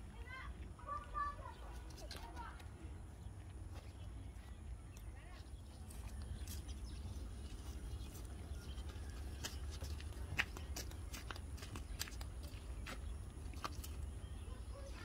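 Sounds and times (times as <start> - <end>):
goats crunching grass: 0.2 - 15.0.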